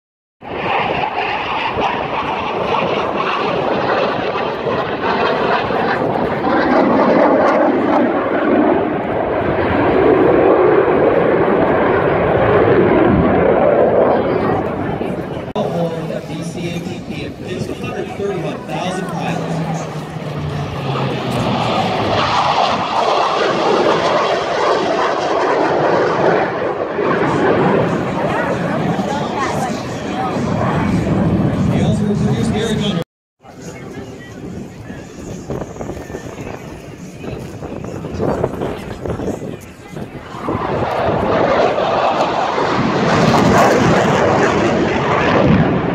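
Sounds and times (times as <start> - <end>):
fighter jet flying past: 0.4 - 45.9.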